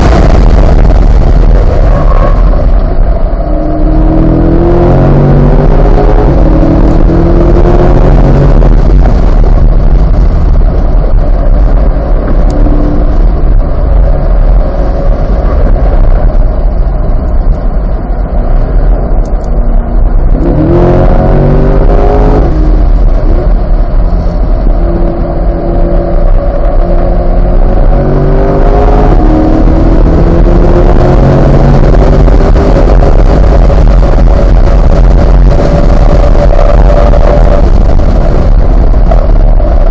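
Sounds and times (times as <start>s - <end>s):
car engine accelerating: 0.0s - 39.9s
road noise: 0.0s - 39.9s
wind noise: 0.0s - 39.9s.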